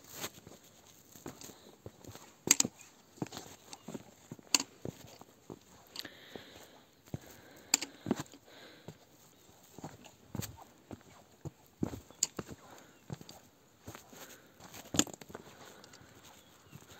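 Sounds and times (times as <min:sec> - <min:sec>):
footsteps on gravel and rock: 0:00.0 - 0:16.9.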